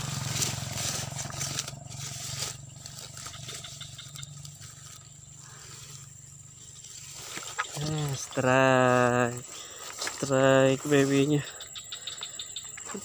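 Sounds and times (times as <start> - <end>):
grass rustling against boots: 0.0 - 11.5
steady low hum: 0.0 - 12.6.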